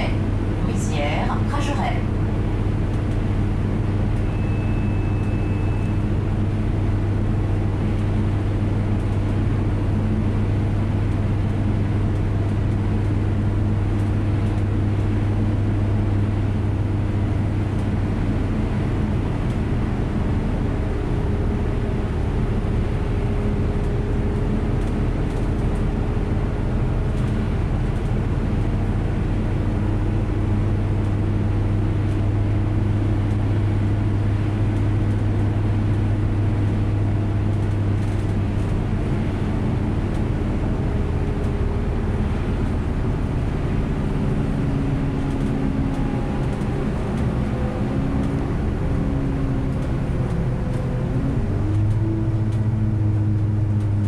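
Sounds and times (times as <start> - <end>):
bus engine humming: 0.0 - 54.0
road and tyre noise: 0.0 - 54.0.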